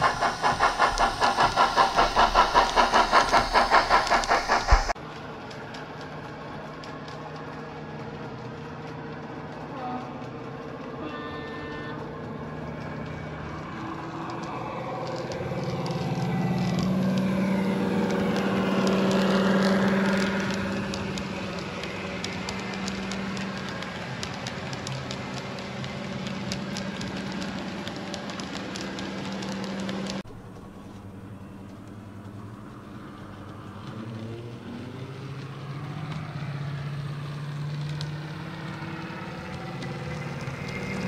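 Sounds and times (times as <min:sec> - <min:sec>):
model train engine sound: 0:00.0 - 0:41.0
wheels clicking on track: 0:00.0 - 0:41.0.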